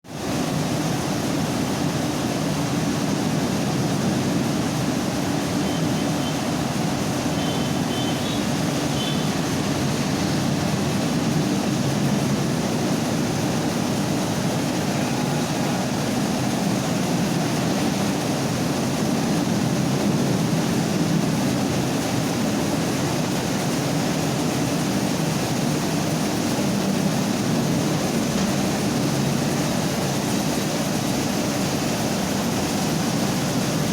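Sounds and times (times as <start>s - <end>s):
rice milling machine rumbling: 0.1s - 33.9s.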